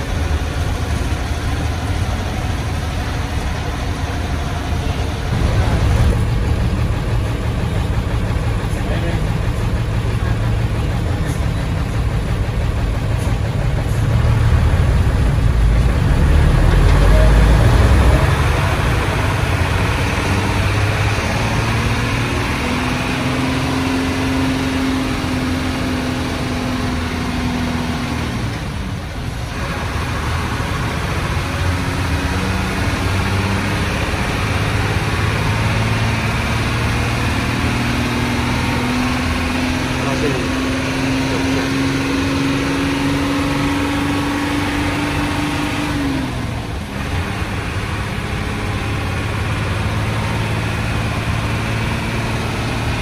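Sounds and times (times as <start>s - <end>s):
diesel bus engine rumbling: 0.0s - 53.0s.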